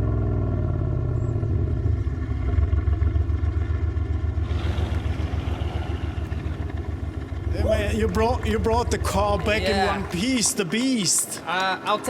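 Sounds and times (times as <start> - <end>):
car engine burbling at low revs: 0.0 - 10.3.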